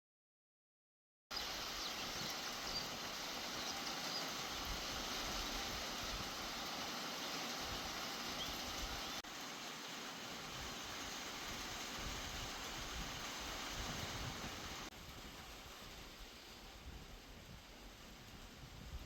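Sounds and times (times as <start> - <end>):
outdoor background hiss: 1.3 - 19.0.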